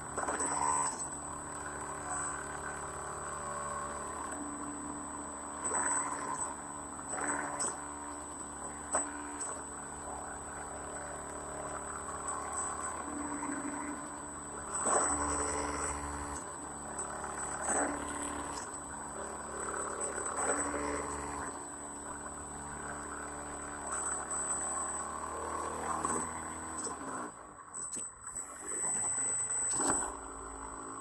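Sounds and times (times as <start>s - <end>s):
model airplane motor and propeller: 0.0s - 31.0s
thin high whine: 0.0s - 31.0s.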